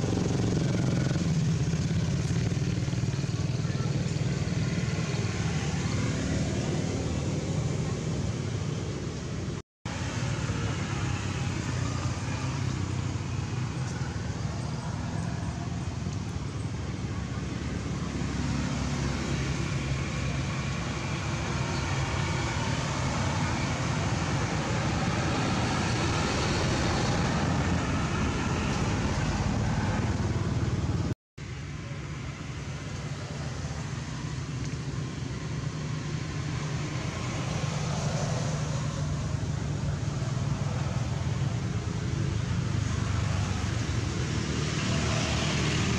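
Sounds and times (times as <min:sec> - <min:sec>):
outdoor background rumble: 0:00.0 - 0:45.9.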